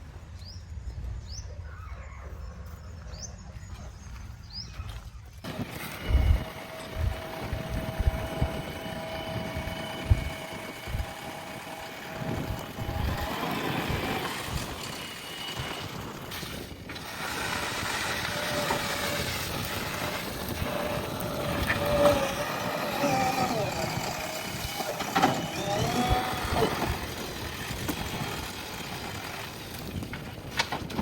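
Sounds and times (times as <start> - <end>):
diesel engine whining: 5.4 - 31.0.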